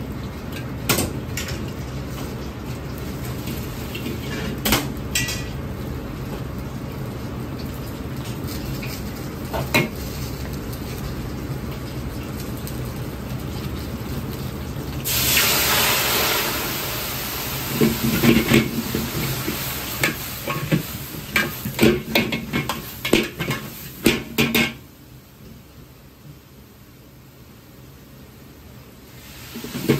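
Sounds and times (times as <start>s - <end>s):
low rumble of wok burner: 0.0s - 29.9s
sauce sizzling in hot wok: 0.0s - 29.9s.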